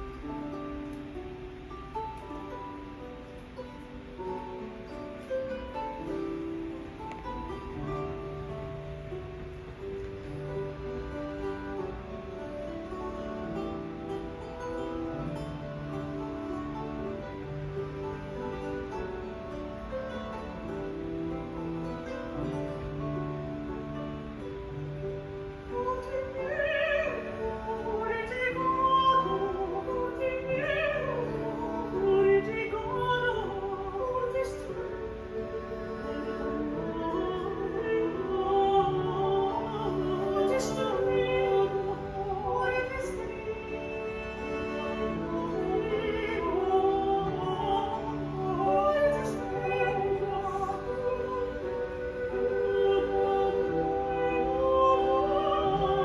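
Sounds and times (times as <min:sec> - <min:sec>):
classical music: 0:00.0 - 0:56.0
operatic singing voice with vibrato: 0:00.0 - 0:56.0
sustained accompanying notes: 0:00.0 - 0:56.0.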